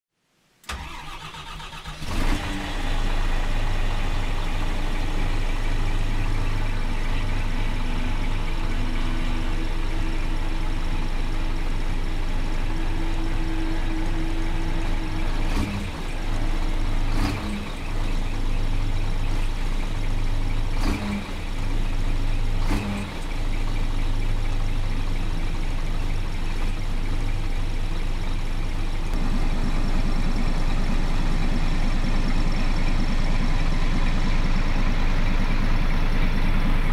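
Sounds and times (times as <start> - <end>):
diesel engine starting and idling: 0.6 - 36.9.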